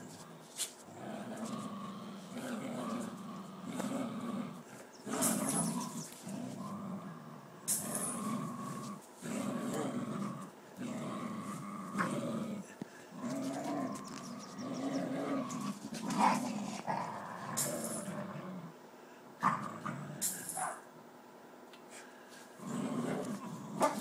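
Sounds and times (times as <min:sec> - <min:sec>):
dogs growling: 0:00.0 - 0:18.8, 0:19.4 - 0:20.8, 0:22.6 - 0:24.0.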